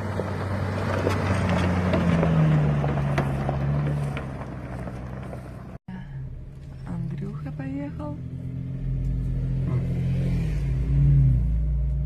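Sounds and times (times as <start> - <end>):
off-road vehicle driving past: 0.0 - 12.0.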